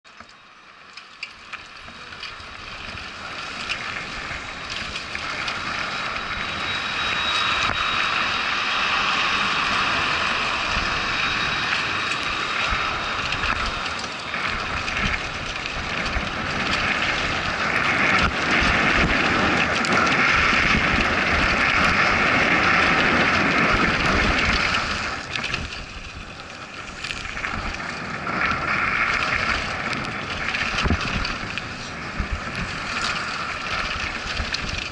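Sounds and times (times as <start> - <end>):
dirt crunching under tyres: 0.0 - 34.9
bike rattling over bumps: 0.1 - 34.9
wind rushing over microphone: 1.4 - 34.9.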